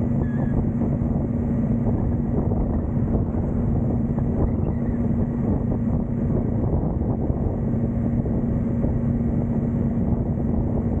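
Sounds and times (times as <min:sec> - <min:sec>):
motorcycle engine hum: 0:00.0 - 0:11.0
wind buffeting on microphone: 0:00.0 - 0:11.0.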